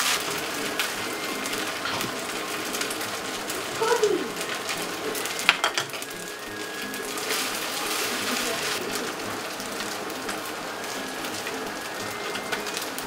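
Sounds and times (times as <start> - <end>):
light background music: 0.0 - 13.0
rice sizzling in a frying pan: 0.0 - 13.0.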